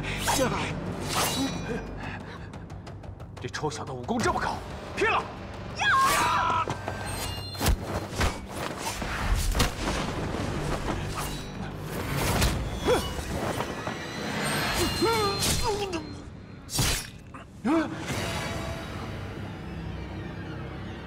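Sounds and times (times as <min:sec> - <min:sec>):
dramatic background music: 0:00.0 - 0:21.0.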